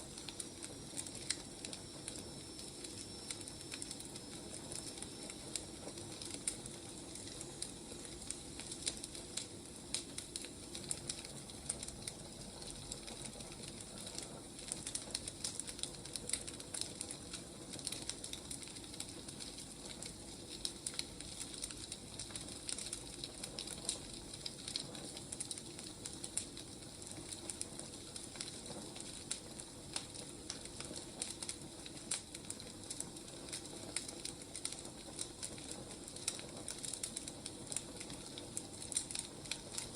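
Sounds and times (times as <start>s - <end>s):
fire hiss: 0.0s - 39.9s
firewood crackling and popping: 0.0s - 39.9s.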